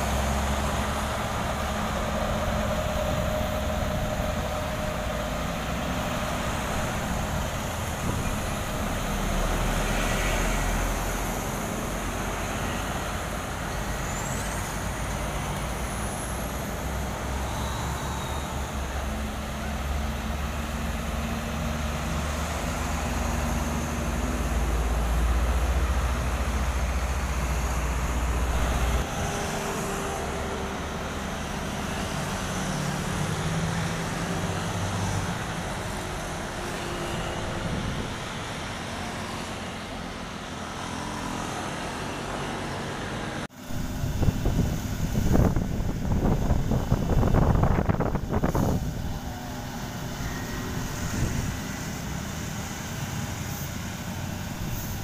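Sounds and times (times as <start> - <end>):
diesel engine rumble: 0.0 - 55.0
traffic noise: 0.0 - 55.0
truck driving past: 0.0 - 55.0.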